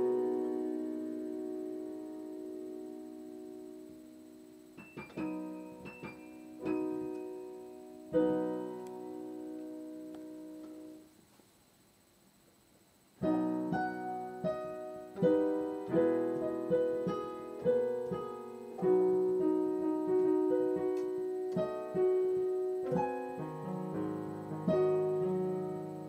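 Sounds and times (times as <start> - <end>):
solo piano playing: 0.0 - 11.0, 13.2 - 26.0.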